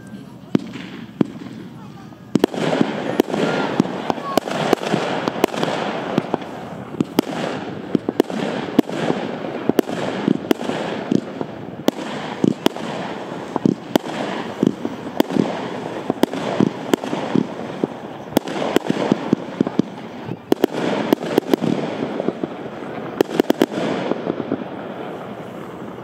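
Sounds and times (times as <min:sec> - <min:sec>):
firework shots: 0:00.0 - 0:26.0.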